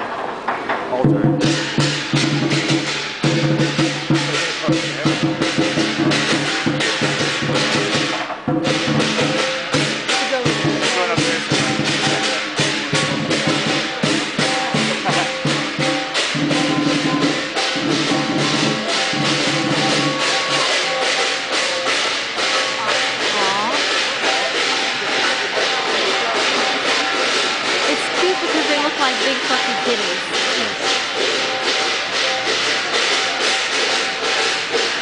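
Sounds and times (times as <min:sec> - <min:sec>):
cymbals clashing: 0:00.0 - 0:35.0
drum beating: 0:00.0 - 0:35.0.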